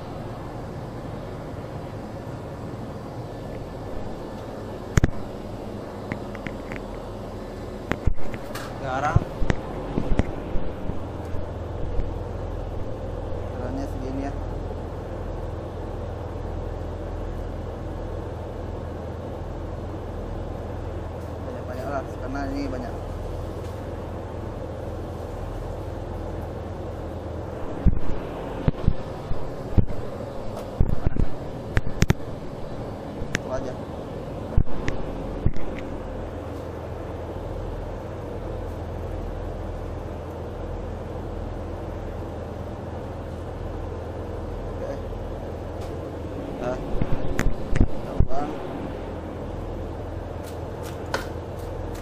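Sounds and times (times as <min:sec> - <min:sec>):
ship engines droning: 0:00.0 - 0:52.0.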